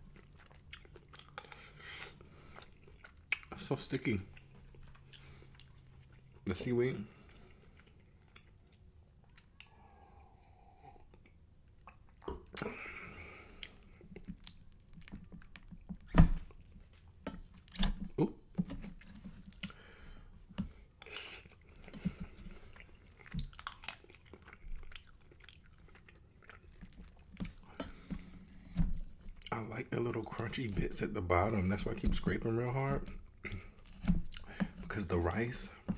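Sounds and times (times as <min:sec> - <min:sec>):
chewing and crunching: 0:00.0 - 0:35.9.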